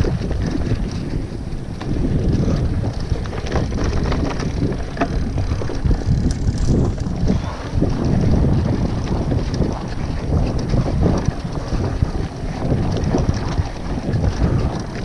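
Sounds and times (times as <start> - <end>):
bike rattles and knocks: 0.0 - 15.0
bike rumbling over rough trail: 0.0 - 15.0
wind rushing over microphone: 0.0 - 15.0.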